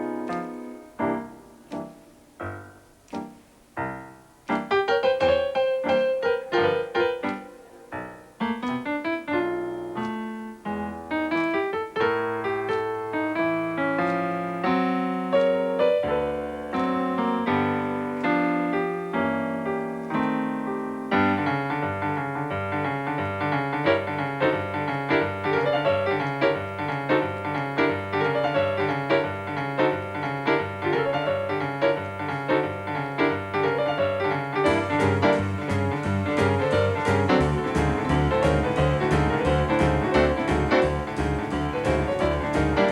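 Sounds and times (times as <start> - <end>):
boogie-woogie blues piano: 0.0 - 42.9.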